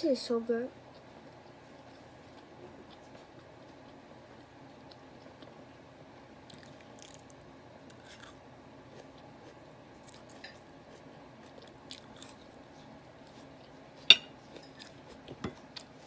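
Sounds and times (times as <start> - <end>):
person chewing: 0.9 - 5.6, 6.4 - 16.0.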